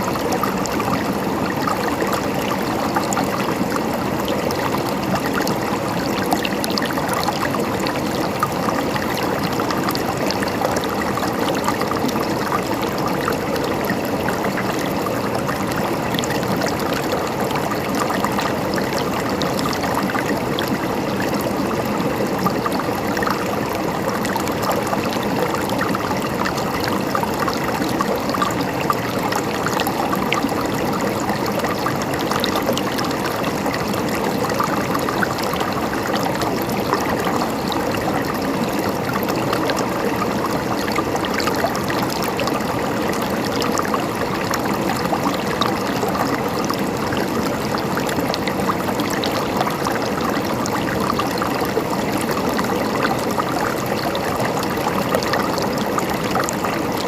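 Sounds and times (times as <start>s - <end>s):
water babbling over stones: 0.0s - 57.0s.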